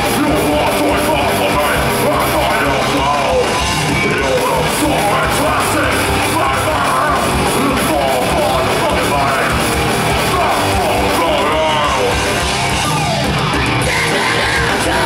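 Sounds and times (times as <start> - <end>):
metal band playing: 0.0 - 15.0.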